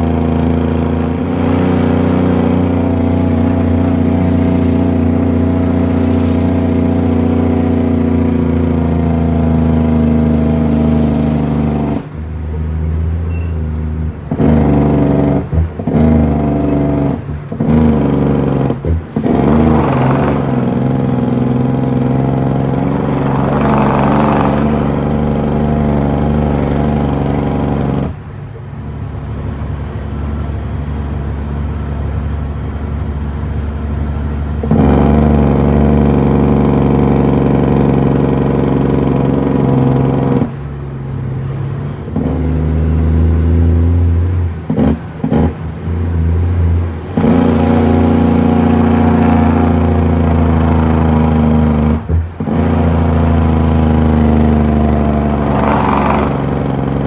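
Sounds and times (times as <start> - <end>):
truck diesel engine under load: 0.0 - 57.0.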